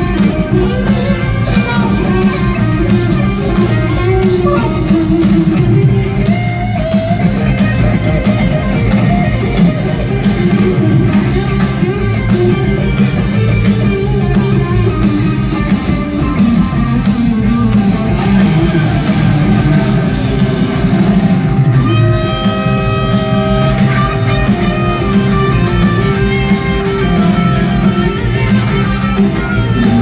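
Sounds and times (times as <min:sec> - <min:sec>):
electric guitar: 0:00.0 - 0:30.0
live rock band playing: 0:00.0 - 0:30.0.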